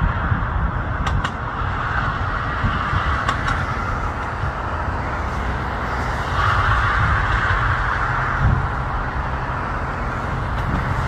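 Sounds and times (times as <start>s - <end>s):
jet engines roaring at takeoff: 0.0s - 11.0s.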